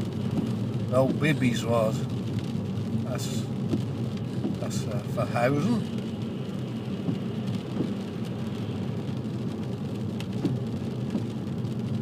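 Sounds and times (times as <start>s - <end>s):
car engine and tyres on wet road: 0.0s - 12.0s
windscreen wiper sweeping: 0.0s - 12.0s.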